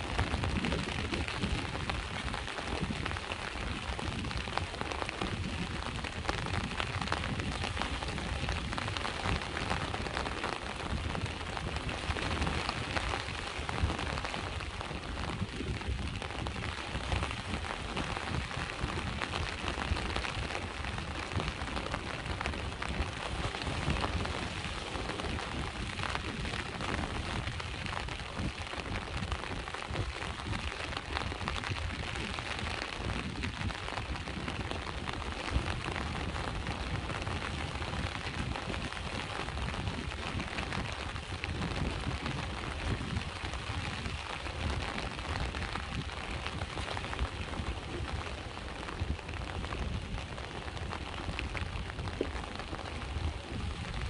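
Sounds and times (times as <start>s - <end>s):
rain pattering: 0.0s - 54.0s
sea waves rumbling: 0.0s - 54.0s.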